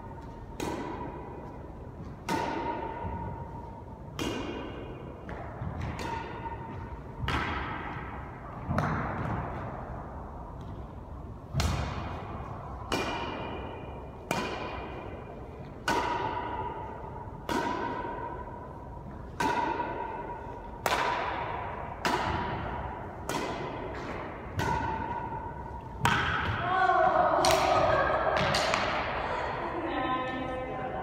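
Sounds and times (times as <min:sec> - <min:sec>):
rackets hitting shuttlecock: 0:00.0 - 0:29.3.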